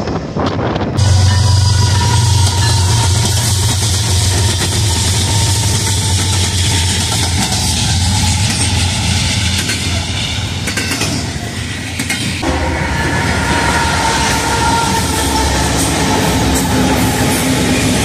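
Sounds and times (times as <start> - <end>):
freight train rumbling over rails: 0.0 - 18.0
locomotive steady tones: 0.7 - 18.0.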